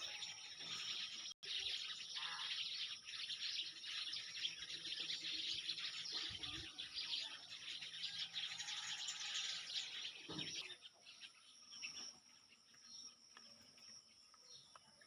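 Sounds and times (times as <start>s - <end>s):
small birds chirping chorus: 0.0s - 15.0s.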